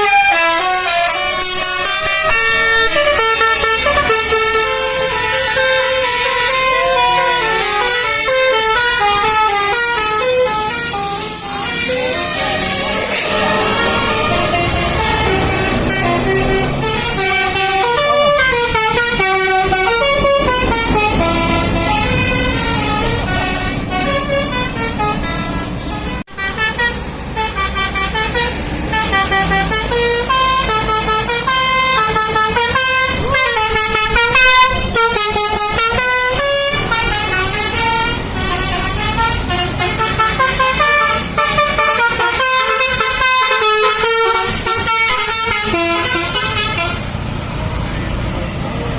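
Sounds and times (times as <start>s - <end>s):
musical air horn playing a tune: 0.0s - 47.1s
road vehicle noise: 0.0s - 48.9s.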